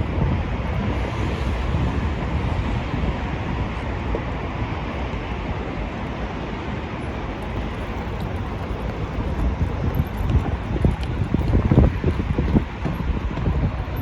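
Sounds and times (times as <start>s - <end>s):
traffic hum: 0.0s - 14.0s
wind rumbling on microphone: 0.0s - 14.0s.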